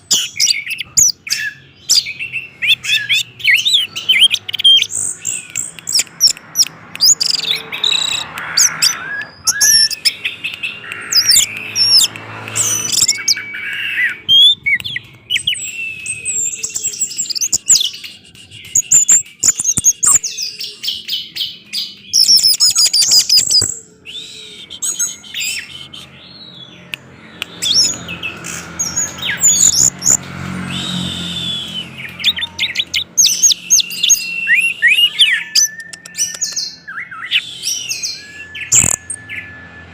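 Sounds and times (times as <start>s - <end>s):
thrush singing whistles: 0.0s - 39.9s.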